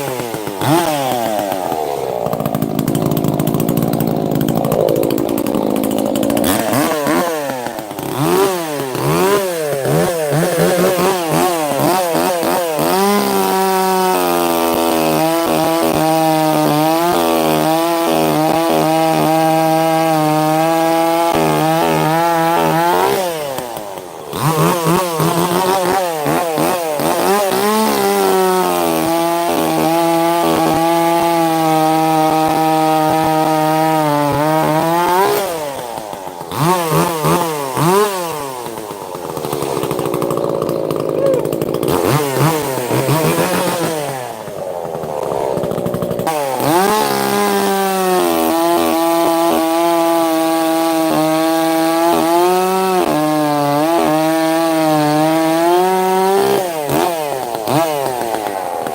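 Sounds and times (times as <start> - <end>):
chainsaw revving and cutting log: 0.0 - 58.9.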